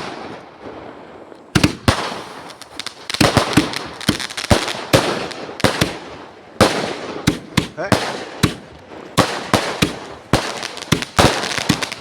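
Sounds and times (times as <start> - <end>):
firecracker crackling: 0.0 - 12.0
firecrackers banging: 0.0 - 12.0.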